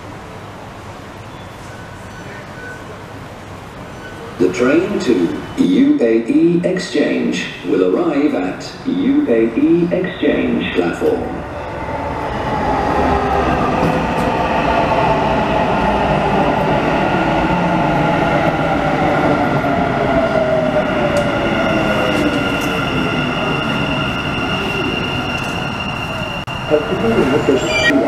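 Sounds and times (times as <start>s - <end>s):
metro train passing: 0.0s - 28.0s.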